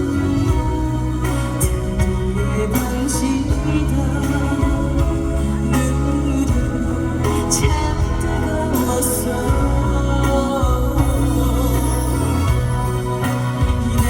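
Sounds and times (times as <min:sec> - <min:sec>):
heavy bass: 0:00.0 - 0:14.0.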